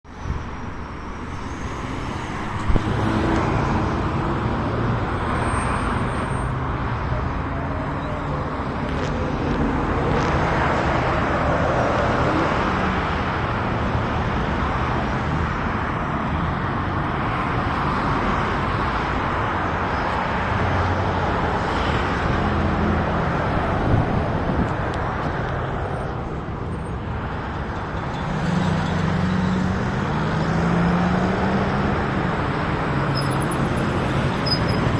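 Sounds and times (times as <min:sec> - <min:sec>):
passing vehicles: 0:00.0 - 0:34.9.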